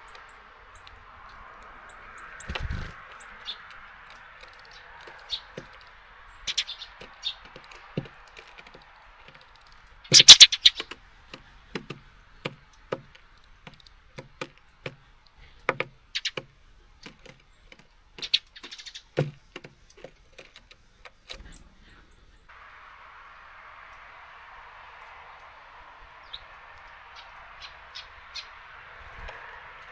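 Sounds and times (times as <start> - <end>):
birds pecking on a feeder: 0.0 - 22.5, 23.1 - 29.9.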